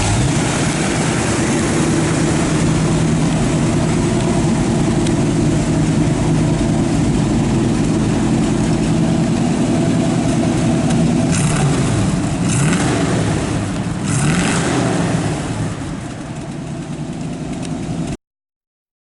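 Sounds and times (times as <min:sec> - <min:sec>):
car engine idling and revving: 0:00.0 - 0:18.2.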